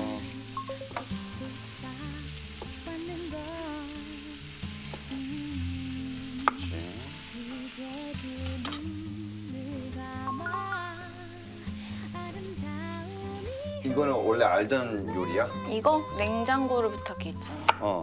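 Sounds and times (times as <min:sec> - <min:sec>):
pan sizzling: 0:00.0 - 0:17.7
background music: 0:00.0 - 0:18.0.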